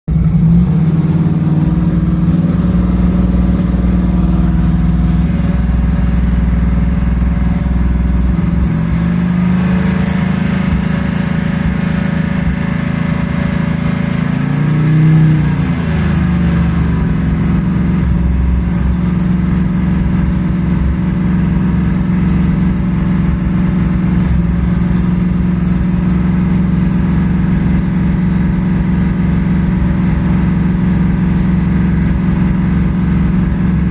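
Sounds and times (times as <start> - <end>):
car engine running with misfire: 0.1 - 33.9.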